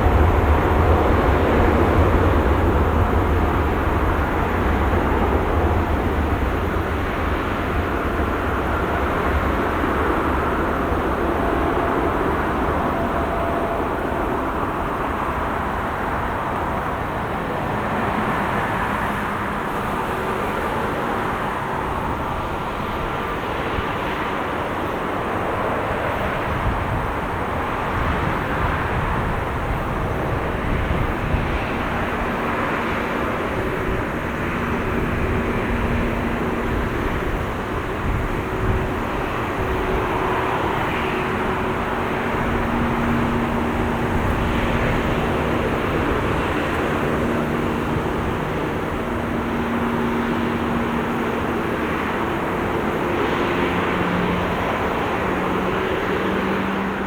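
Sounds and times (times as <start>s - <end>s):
jet engines running at low power: 0.0s - 57.0s.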